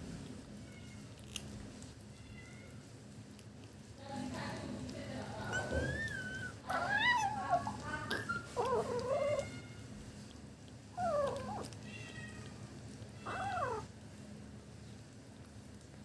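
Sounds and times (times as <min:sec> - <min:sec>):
kitten vocalizing while eating: 0:00.0 - 0:16.0.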